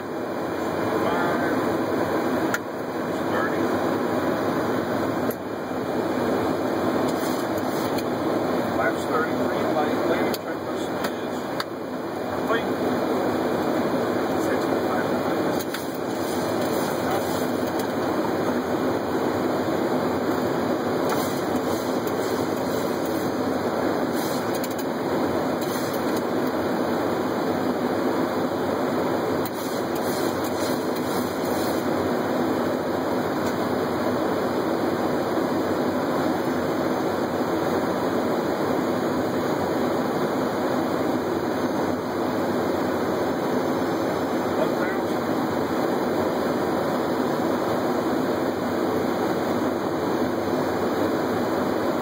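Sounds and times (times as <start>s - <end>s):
cockpit airflow and engine noise: 0.0s - 52.0s.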